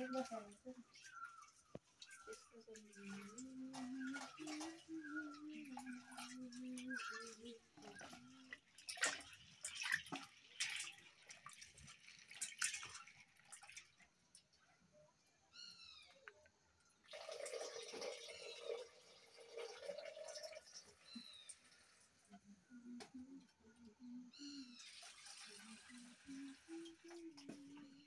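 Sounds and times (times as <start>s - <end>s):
water splashes and drips: 0.0s - 15.5s, 16.1s - 28.0s.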